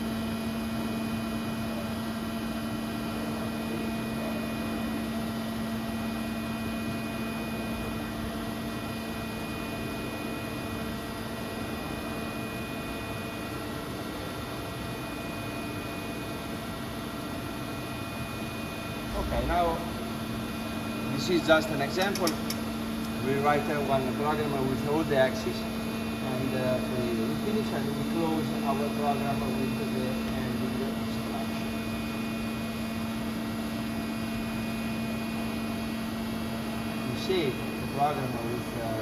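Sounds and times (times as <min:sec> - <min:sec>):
machine electric hum: 0:00.0 - 0:39.0.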